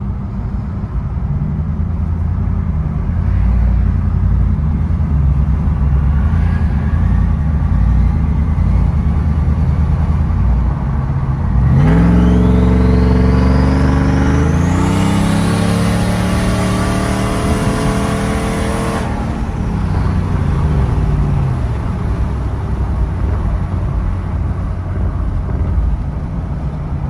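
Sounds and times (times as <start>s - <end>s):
truck engine rumbling and accelerating: 0.0s - 27.0s.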